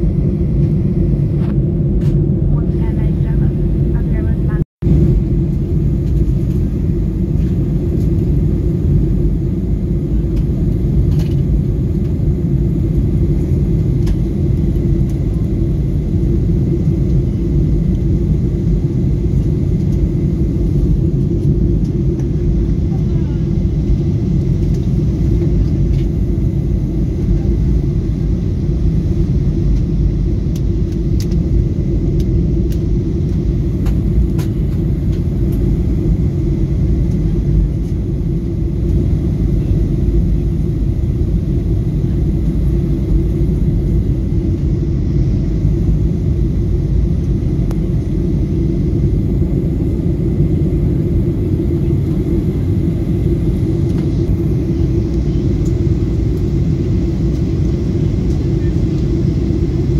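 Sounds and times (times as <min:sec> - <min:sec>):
aircraft cabin engine rumble: 0:00.0 - 0:59.9.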